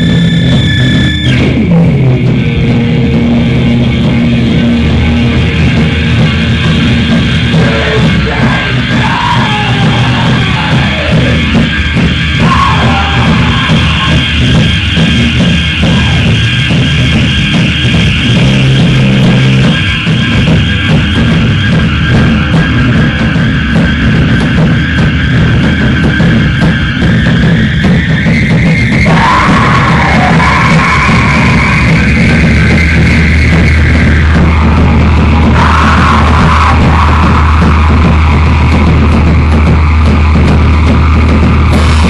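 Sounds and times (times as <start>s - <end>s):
distorted electronic noise: 0.0s - 42.0s
drum kit with cymbals: 0.0s - 42.0s.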